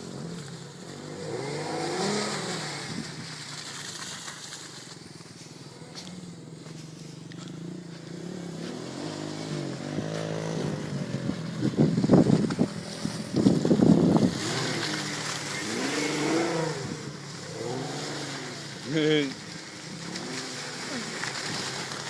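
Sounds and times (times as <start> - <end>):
car engine revving: 0.0 - 4.9, 5.5 - 22.0.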